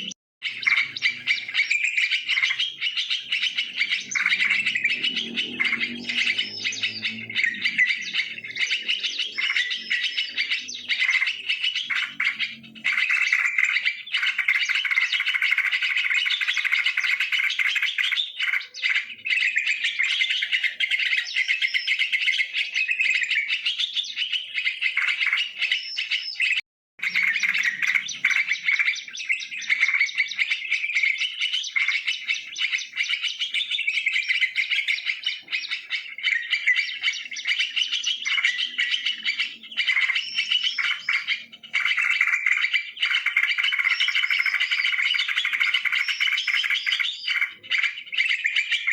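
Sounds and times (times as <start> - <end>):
bulbuls chirping and chattering: 0.0 - 48.9.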